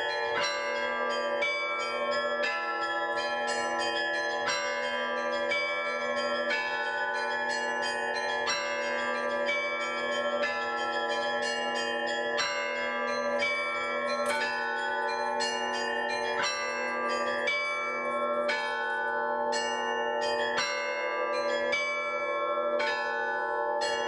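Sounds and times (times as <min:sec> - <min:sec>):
large bells ringing: 0:00.0 - 0:24.0.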